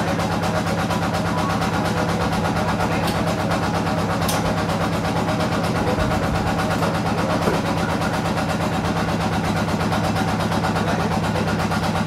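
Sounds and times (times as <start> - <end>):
drilling rig engine running: 0.0 - 12.0.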